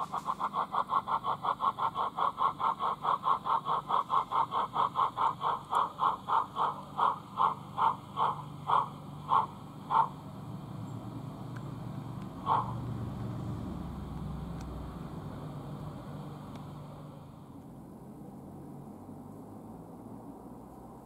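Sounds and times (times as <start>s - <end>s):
model locomotive steam chuffing: 0.0s - 17.6s.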